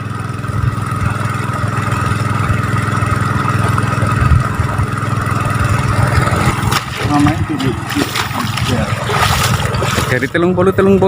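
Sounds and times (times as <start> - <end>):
water pump engine running: 0.0 - 11.0.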